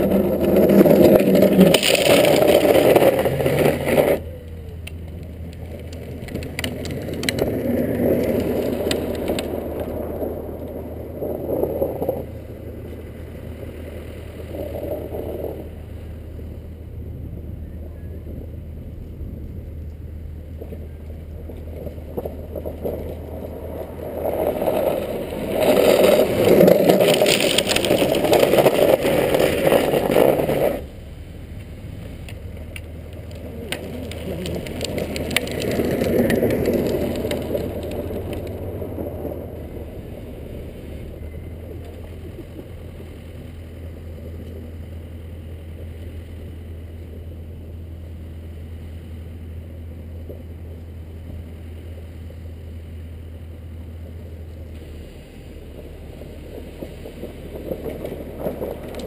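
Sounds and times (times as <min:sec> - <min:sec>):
wheels scraping across asphalt: 0:00.0 - 0:59.0.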